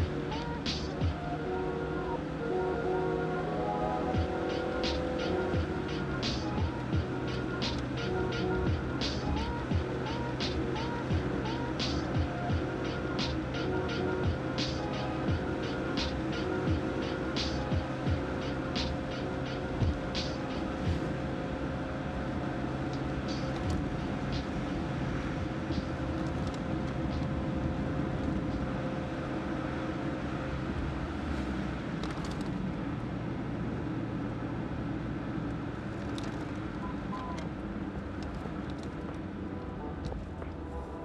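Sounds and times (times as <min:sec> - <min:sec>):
car engine: 0:00.0 - 0:41.0
road noise: 0:00.0 - 0:41.0.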